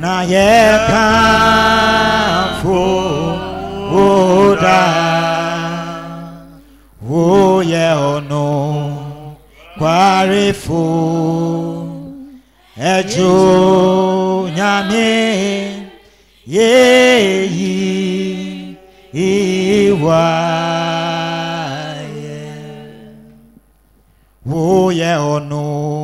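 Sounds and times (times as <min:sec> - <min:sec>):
person singing chant-like phrases: 0:00.0 - 0:23.4.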